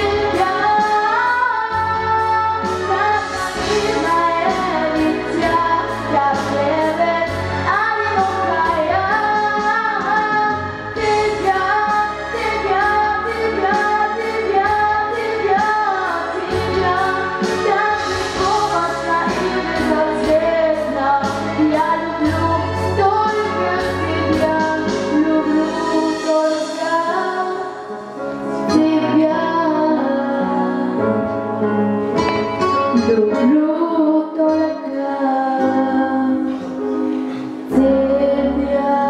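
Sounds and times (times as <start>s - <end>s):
girl singing into microphone: 0.0s - 31.4s, 32.7s - 39.0s
backing track with beat: 0.0s - 33.6s.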